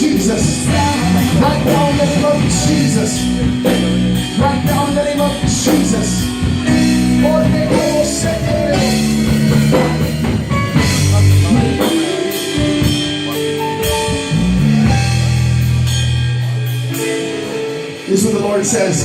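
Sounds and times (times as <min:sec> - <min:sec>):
drum kit: 0:00.0 - 0:19.0
guitar: 0:00.0 - 0:19.0
long held low chords: 0:00.0 - 0:19.0.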